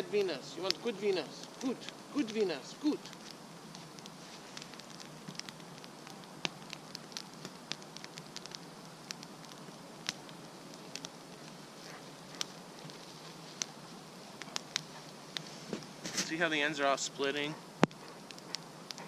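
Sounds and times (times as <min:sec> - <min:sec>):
campfire crackling and popping: 0:00.0 - 0:19.0
low fire hiss: 0:00.0 - 0:19.0.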